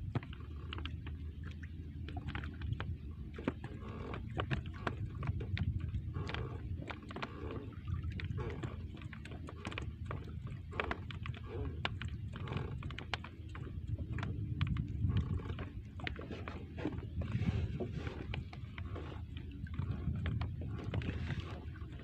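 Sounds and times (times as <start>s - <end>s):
steady low rumble: 0.0s - 22.0s
water lapping at canoe: 0.0s - 22.0s.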